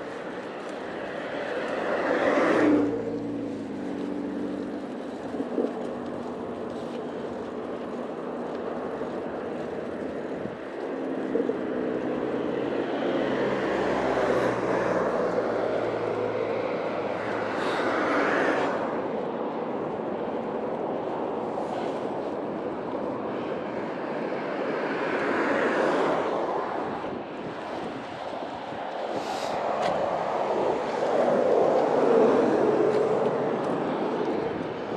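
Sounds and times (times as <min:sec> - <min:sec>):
vehicles passing close by: 0:00.0 - 0:34.9.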